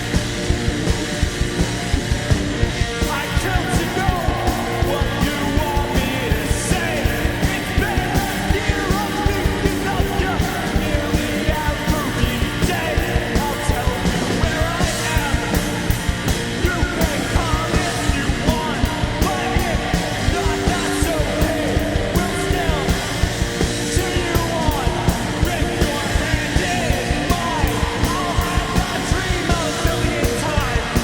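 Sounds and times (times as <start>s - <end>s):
rapid drumming: 0.0s - 31.0s
rock band playing punk: 0.0s - 31.0s
sung and yelled vocals: 0.0s - 31.0s.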